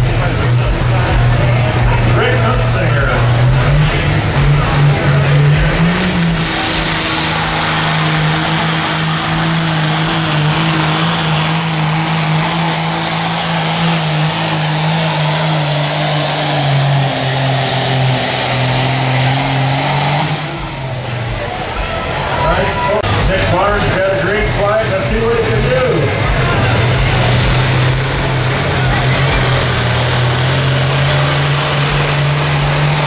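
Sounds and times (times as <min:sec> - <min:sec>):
tractor engine running under load: 0:00.0 - 0:33.0.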